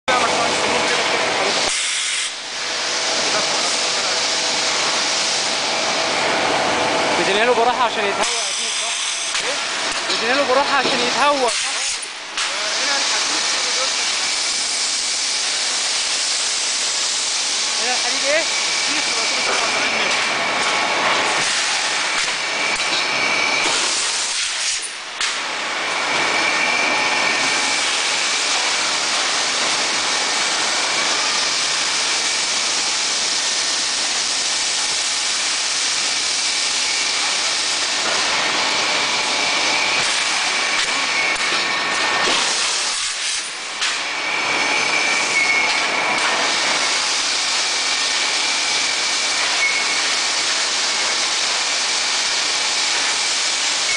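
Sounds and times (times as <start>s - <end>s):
rolling mill machinery hiss: 0.1s - 5.7s, 7.3s - 20.4s, 23.5s - 53.9s.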